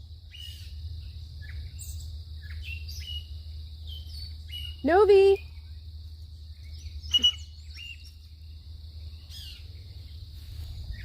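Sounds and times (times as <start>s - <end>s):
bird chirps: 0.3s - 11.0s.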